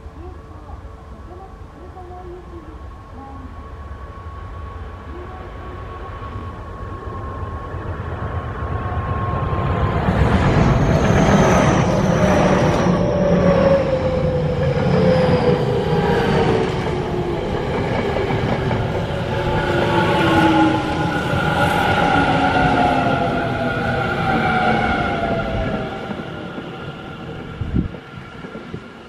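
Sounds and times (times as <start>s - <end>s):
train traction motors whining: 0.0s - 29.0s.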